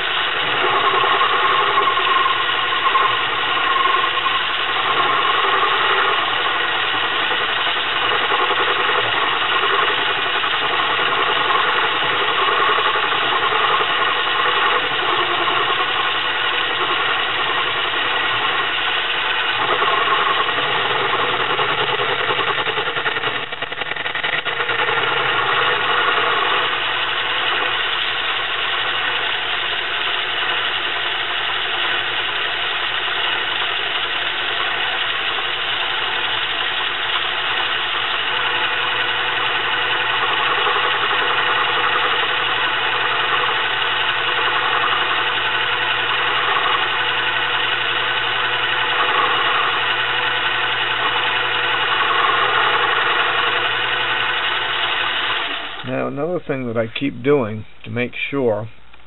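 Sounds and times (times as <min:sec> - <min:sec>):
metal lathe running: 0:00.0 - 0:56.4.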